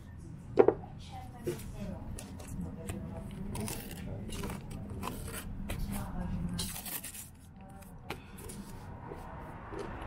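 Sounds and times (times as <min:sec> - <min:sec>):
handling rustling and scraping: 0:01.4 - 0:10.0.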